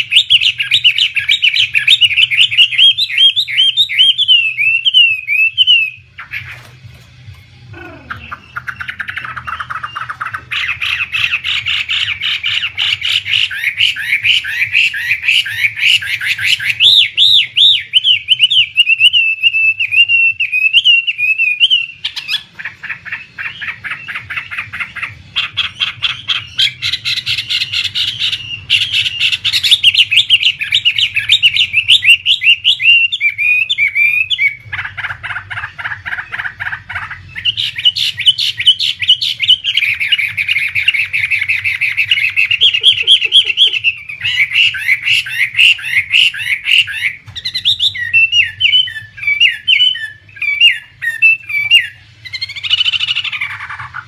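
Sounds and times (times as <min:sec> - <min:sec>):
birds singing trills and whistles: 0:00.0 - 0:54.0.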